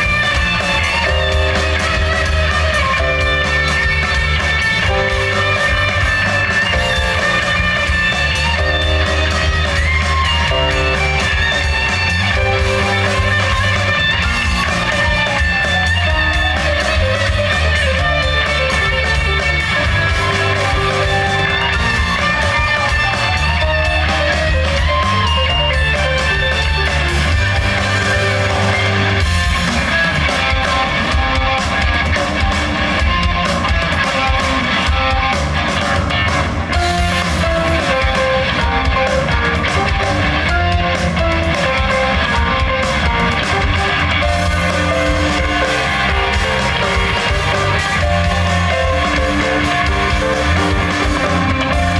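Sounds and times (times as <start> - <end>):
rock band playing live: 0.0 - 51.9.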